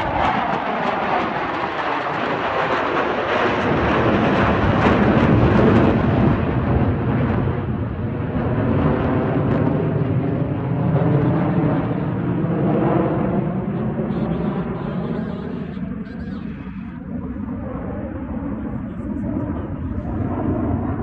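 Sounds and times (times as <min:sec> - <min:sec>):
fighter jets passing overhead: 0:00.0 - 0:21.0.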